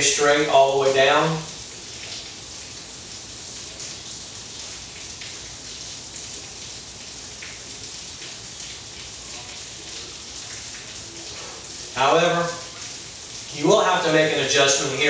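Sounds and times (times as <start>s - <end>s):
high-pitched background hiss: 0.0s - 15.0s.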